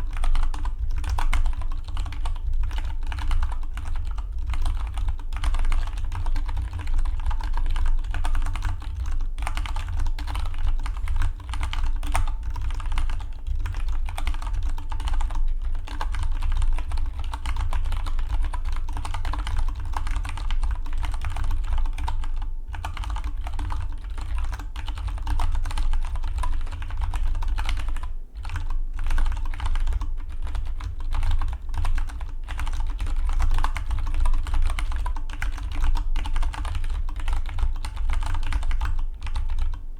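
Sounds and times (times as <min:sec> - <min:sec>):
mechanical keyboard typing: 0:00.0 - 0:39.8.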